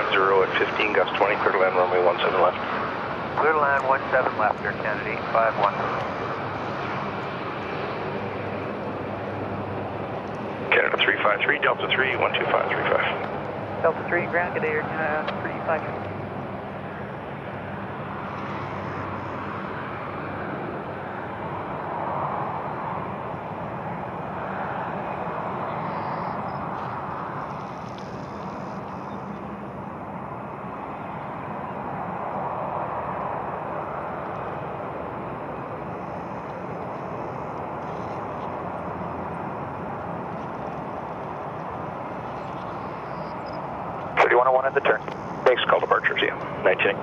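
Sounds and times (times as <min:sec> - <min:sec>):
aircraft engine drone: 0:00.0 - 0:47.0.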